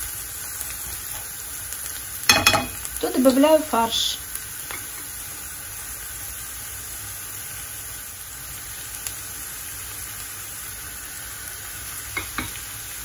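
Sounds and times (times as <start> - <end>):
onion and garlic sizzling: 0.0 - 13.0.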